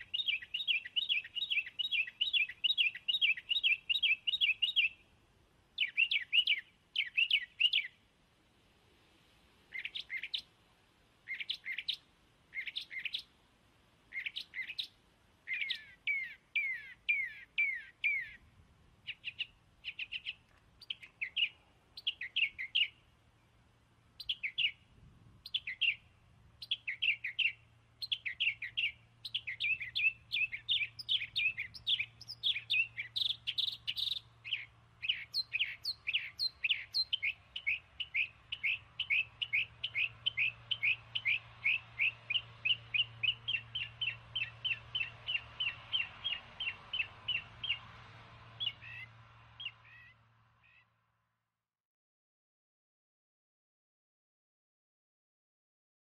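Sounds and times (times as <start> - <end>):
small bird chirping: 0.0 - 5.1, 5.8 - 8.0, 9.7 - 10.6, 11.2 - 13.3, 14.1 - 23.1, 24.2 - 47.8, 48.6 - 50.9.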